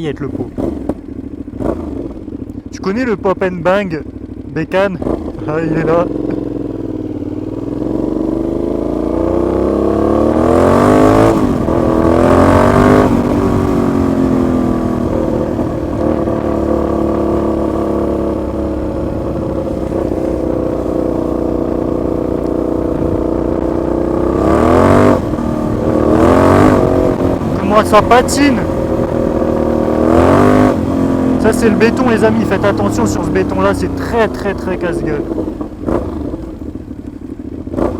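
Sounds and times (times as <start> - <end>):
motorcycle accelerating hard: 0.0 - 37.9.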